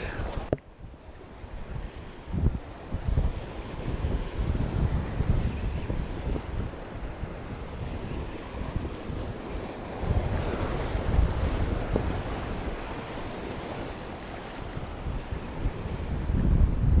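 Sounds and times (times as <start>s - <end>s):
sea water washing: 0.0s - 16.7s
wind buffeting microphone: 0.0s - 17.0s.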